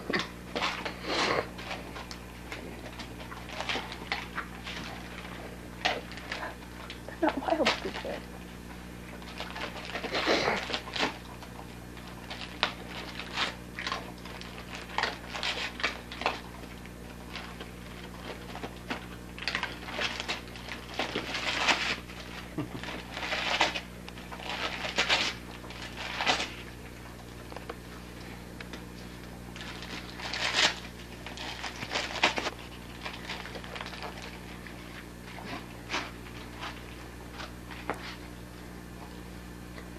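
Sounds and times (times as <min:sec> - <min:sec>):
steady low hum: 0:00.0 - 0:39.9
wrapping paper crinkling and tearing: 0:00.2 - 0:08.4, 0:09.1 - 0:27.8, 0:28.4 - 0:38.3.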